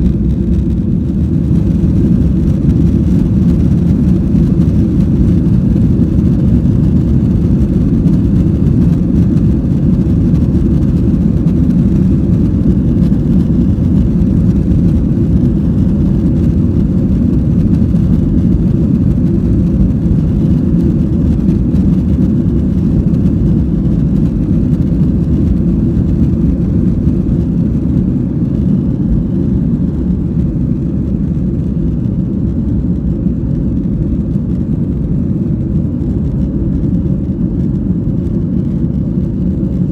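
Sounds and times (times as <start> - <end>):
jet engine low rumble: 0.0 - 39.9.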